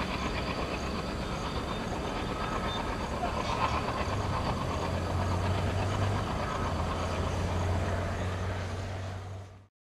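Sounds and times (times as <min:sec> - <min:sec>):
diesel engine drone: 0:00.0 - 0:09.7
train rushing rumble: 0:00.0 - 0:09.7.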